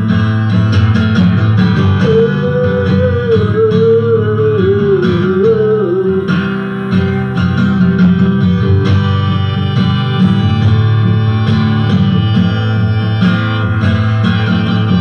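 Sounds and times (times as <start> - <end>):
acoustic guitar strumming: 0.0 - 15.0
harmonica playing held notes: 0.0 - 15.0.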